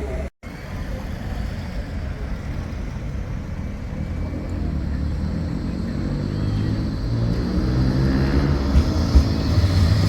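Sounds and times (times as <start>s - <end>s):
tram running rumble: 0.0s - 10.0s.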